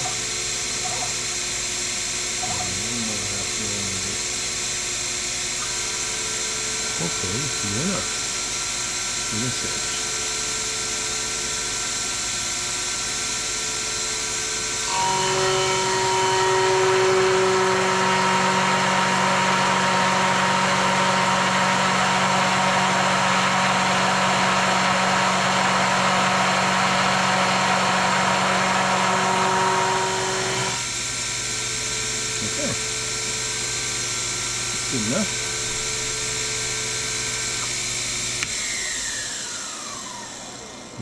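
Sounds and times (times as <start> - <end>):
mill spindle motor running: 0.0 - 41.0.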